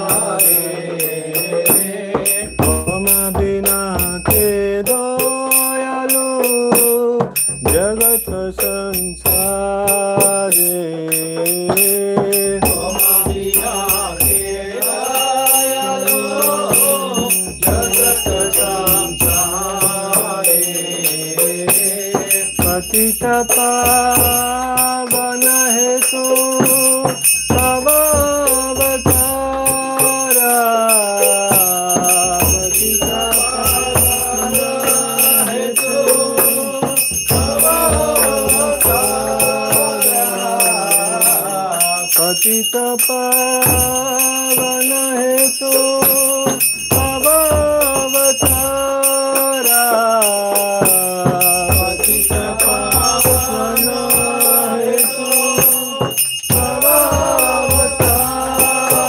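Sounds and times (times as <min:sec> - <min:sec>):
person singing devotional melody: 0:00.0 - 0:59.0
small hand bell ringing: 0:00.0 - 0:59.0.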